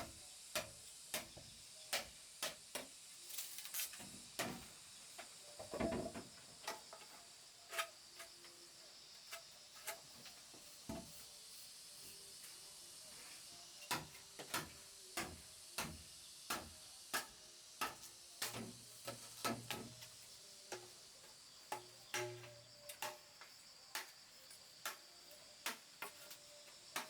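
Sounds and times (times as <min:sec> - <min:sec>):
faint high hiss: 0:00.0 - 0:27.0.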